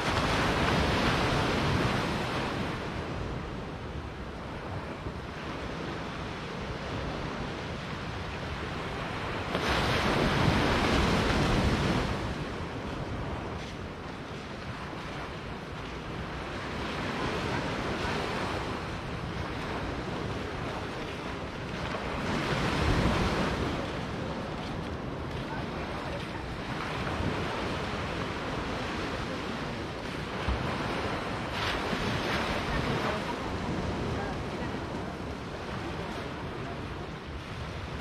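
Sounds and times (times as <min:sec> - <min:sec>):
waves washing up sandy beach: 0:00.0 - 0:38.0.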